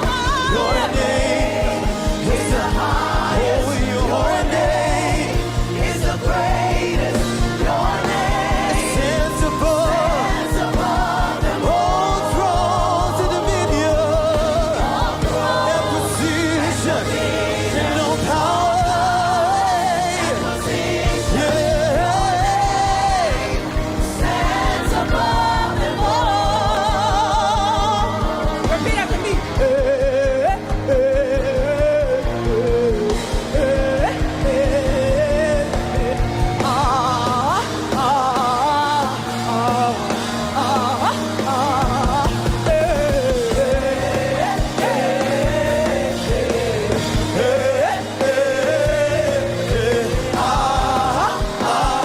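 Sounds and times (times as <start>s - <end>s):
choir singing: 0.0s - 52.0s
gospel band playing: 0.0s - 52.0s.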